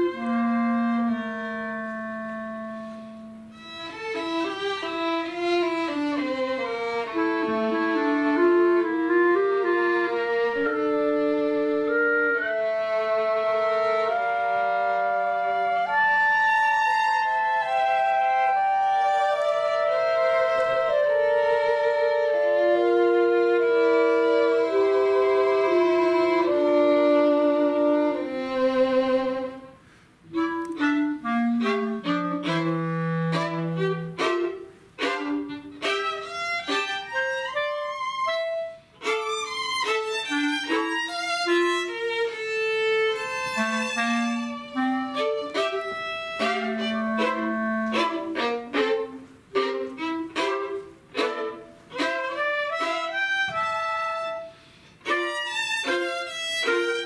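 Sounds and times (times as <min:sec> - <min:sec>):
bowed string instrument: 0:00.0 - 0:57.0
clarinet: 0:00.0 - 0:57.0
violin: 0:00.0 - 0:57.0.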